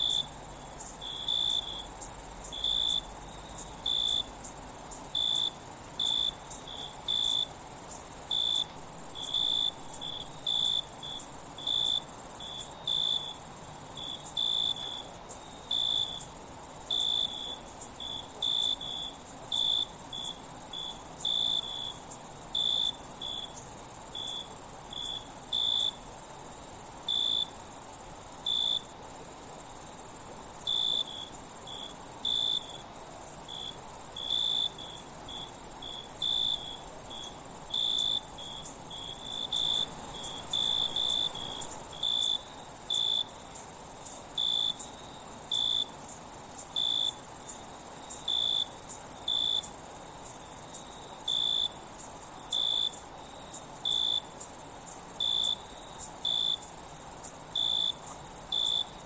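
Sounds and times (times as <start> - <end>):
crickets chirping: 0.0 - 59.0
high-pitched insect trill: 0.0 - 59.0.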